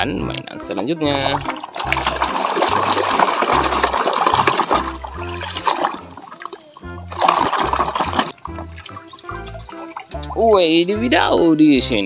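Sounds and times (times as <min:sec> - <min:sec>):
background music with bass line: 0:00.0 - 0:06.2, 0:06.8 - 0:12.0
muddy water splashing: 0:00.4 - 0:12.0.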